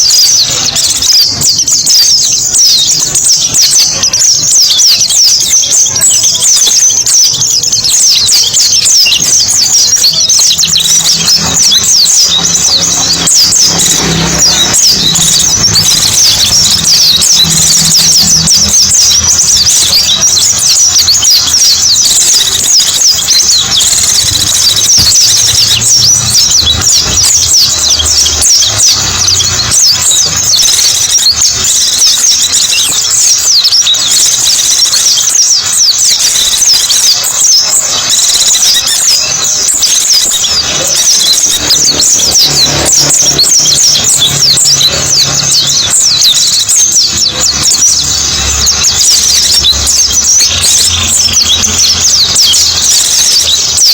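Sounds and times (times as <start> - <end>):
small birds twittering: 0.0 - 53.9.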